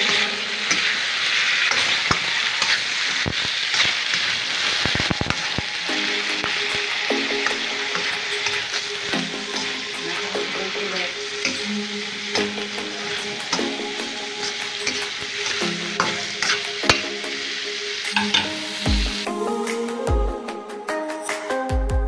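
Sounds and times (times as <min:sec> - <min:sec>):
metal spatula scraping a wok: 0:00.0 - 0:17.4, 0:18.0 - 0:19.0
vegetables sizzling in oil: 0:00.0 - 0:19.6.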